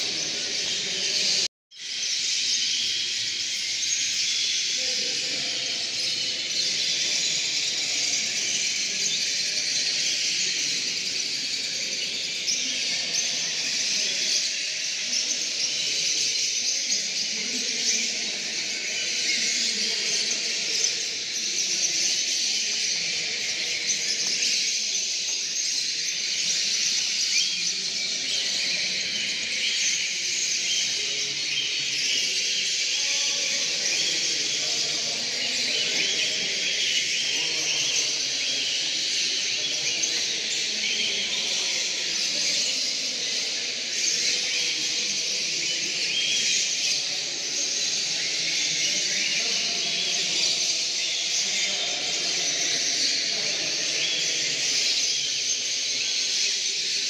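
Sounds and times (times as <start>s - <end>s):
canaries singing and chirping: 0.0s - 57.0s
low background murmur: 0.0s - 57.0s.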